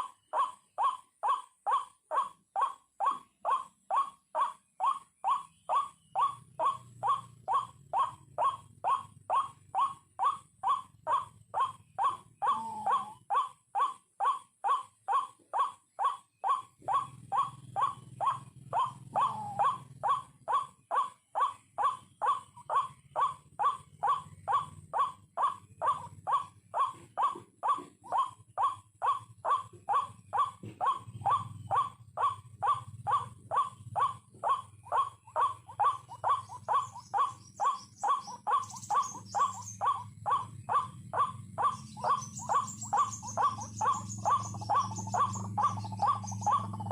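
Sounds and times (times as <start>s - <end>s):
waterhen harsh calls: 0.0s - 46.9s.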